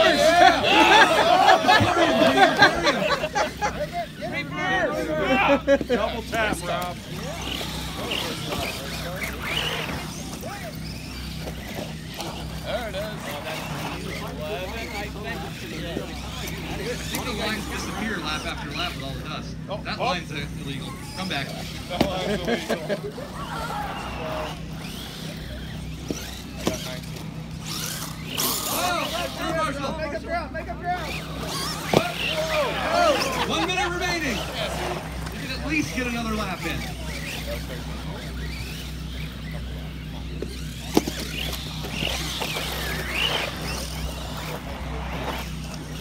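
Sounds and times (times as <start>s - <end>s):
rc car motors whining: 0.0s - 46.0s
voices talking: 0.0s - 46.0s.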